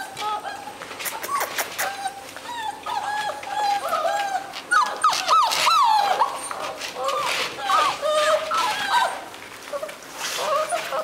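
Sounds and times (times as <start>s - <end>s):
puppies whimpering and whining: 0.0s - 11.0s.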